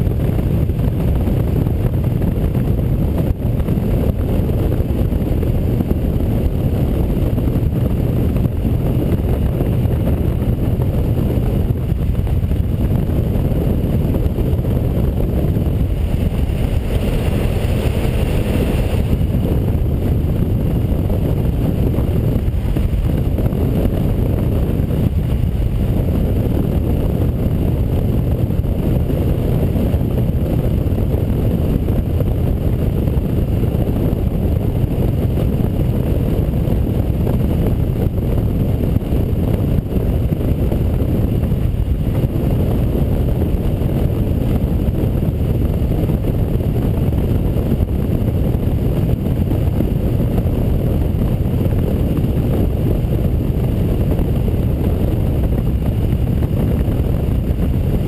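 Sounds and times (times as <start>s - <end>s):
motorcycle engine drone: 0.0s - 58.0s
wind noise on microphone: 0.0s - 58.0s.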